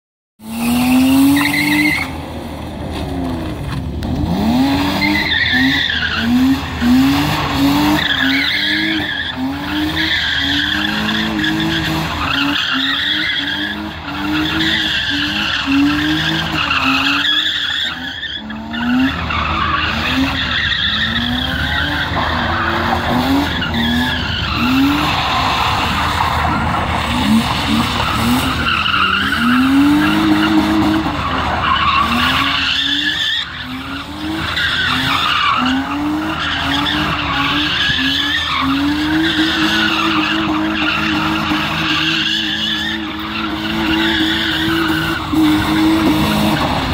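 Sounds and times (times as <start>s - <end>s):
car engine revving: 0.4s - 46.9s
tyres skidding and squealing: 0.4s - 46.9s.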